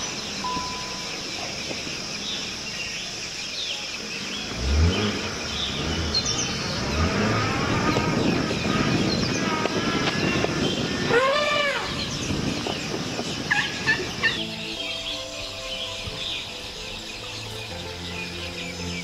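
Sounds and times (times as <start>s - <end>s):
birds chirping and calling: 0.0s - 19.0s
outdoor background hiss: 0.0s - 19.0s.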